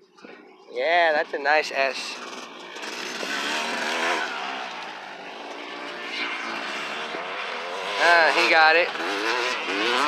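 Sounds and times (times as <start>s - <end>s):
dirt bike engine revving: 1.0s - 10.0s.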